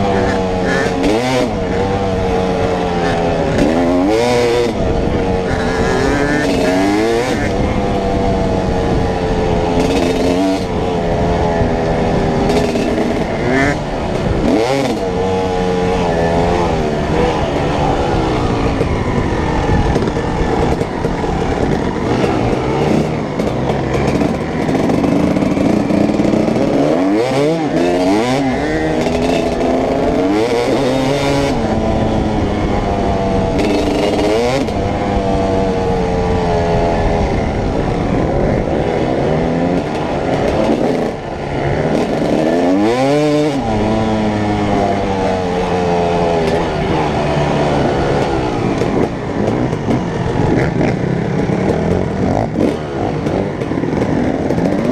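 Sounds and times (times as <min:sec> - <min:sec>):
dirt bike engines revving: 0:00.0 - 0:54.9
rough rushing noise: 0:00.0 - 0:54.9.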